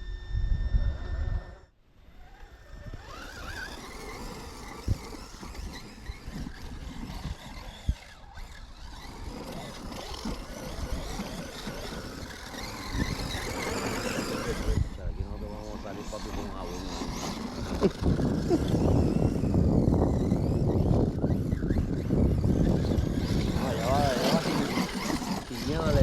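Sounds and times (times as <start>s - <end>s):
radio-controlled car motor whining: 0.0s - 26.0s
tires churning sand and dirt: 0.9s - 26.0s.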